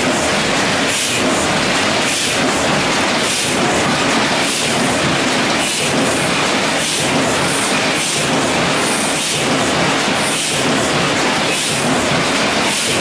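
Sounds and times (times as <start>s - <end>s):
printing press mechanical clatter: 0.0s - 13.0s.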